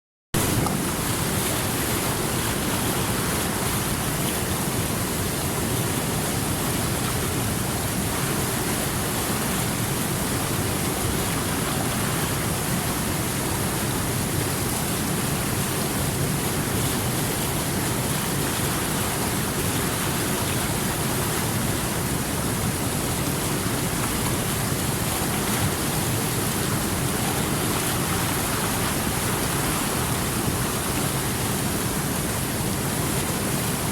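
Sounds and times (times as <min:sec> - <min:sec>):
river water rushing: 0:00.4 - 0:33.9.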